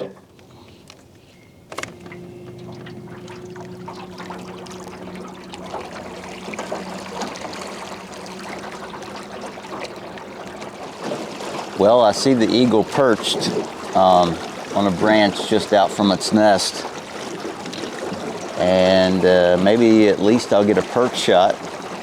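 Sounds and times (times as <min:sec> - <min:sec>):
small boat motor humming: 0:00.0 - 0:22.0
water splashing along hull: 0:00.0 - 0:22.0.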